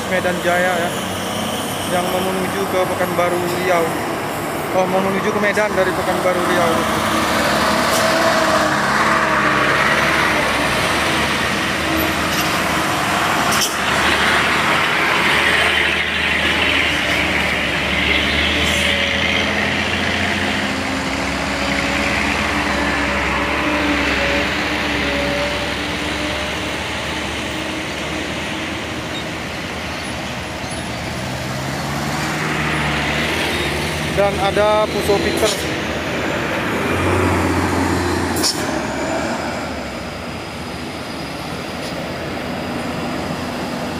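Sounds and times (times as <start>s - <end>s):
heavy diesel traffic: 0.0s - 43.9s
tyre and road noise: 0.0s - 43.9s.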